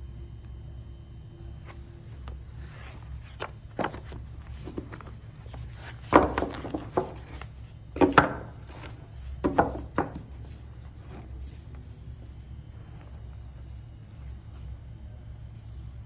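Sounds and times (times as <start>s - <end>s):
paper sheets rustling: 1.6s - 14.8s.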